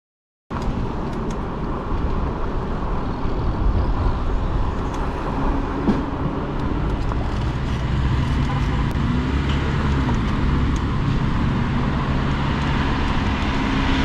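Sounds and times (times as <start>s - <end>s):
road traffic rumble: 0.5s - 14.0s.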